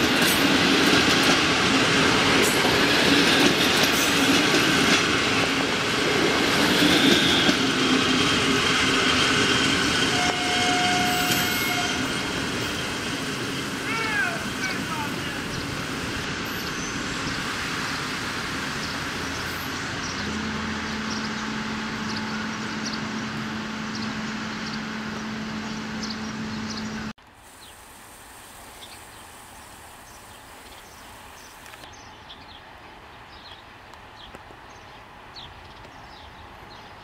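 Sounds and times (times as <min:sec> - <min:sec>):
train rolling rumble: 0:00.0 - 0:37.0.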